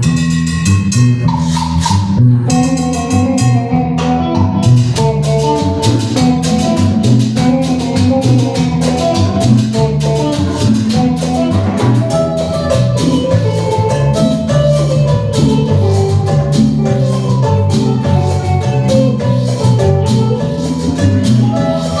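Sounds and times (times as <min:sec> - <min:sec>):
band playing cumbia: 0:00.0 - 0:22.0.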